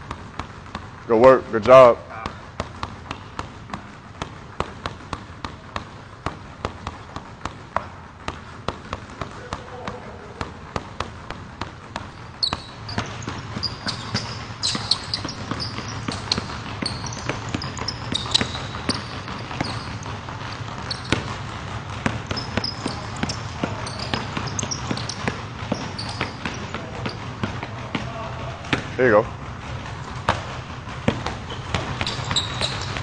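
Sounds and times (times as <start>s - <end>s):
basketball bouncing on wooden floor: 0.0s - 33.0s
sneakers squeaking: 0.0s - 33.0s.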